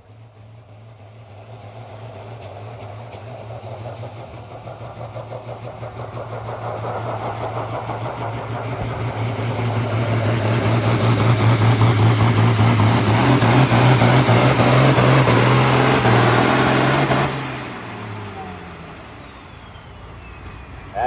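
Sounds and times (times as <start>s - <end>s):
tractor diesel engine at full throttle: 3.3s - 21.0s.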